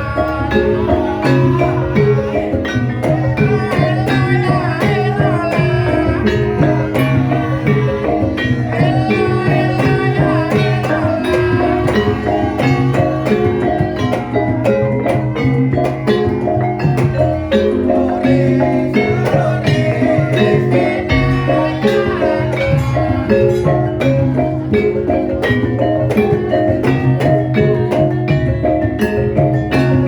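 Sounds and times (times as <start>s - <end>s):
woman singing: 0.0s - 25.6s
drum strokes: 0.0s - 30.0s
gamelan metallophone notes: 0.0s - 30.0s.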